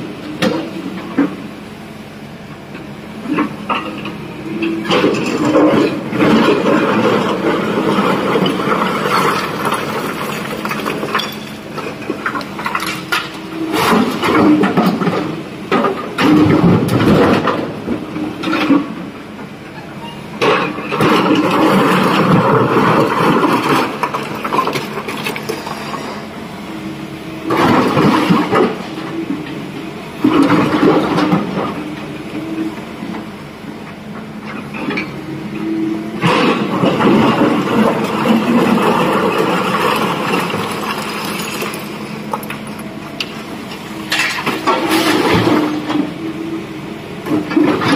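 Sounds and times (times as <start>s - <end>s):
diesel engine under load: 0.0s - 47.9s.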